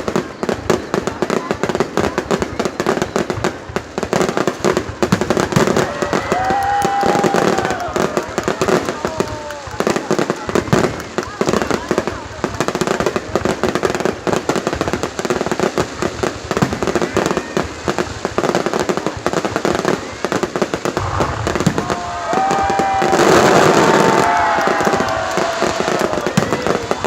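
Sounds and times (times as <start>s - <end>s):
firecrackers crackling and popping: 0.0s - 27.0s
whistling fireworks rush: 0.0s - 27.0s.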